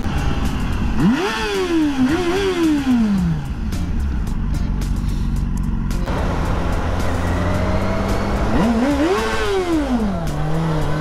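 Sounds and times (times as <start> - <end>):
motorcycle engine revving: 0.0 - 11.0
road noise rushing: 0.0 - 11.0.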